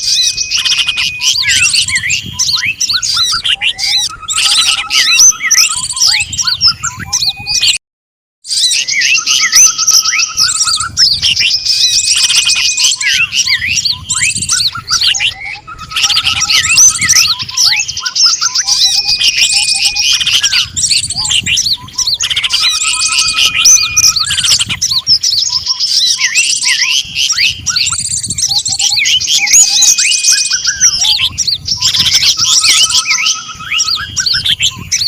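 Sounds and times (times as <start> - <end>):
songbirds chirping and trilling: 0.0 - 7.8, 8.5 - 35.0.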